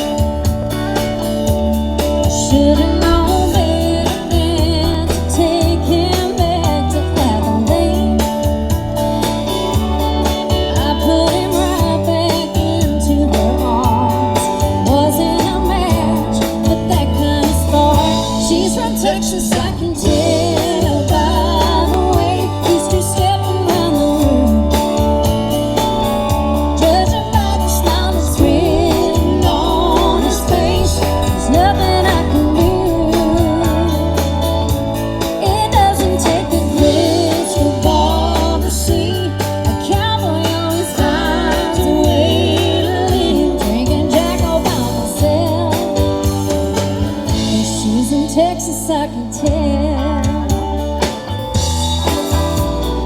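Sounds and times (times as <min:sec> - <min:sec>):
country song: 0:00.0 - 0:53.0.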